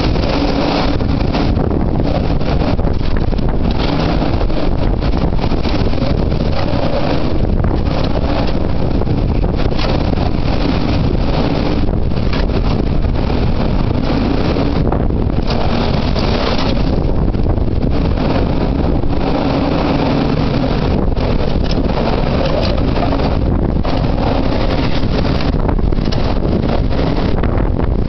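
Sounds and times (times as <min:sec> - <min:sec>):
heavy surf: 0:00.0 - 0:28.0
wind buffeting microphone: 0:00.0 - 0:28.0.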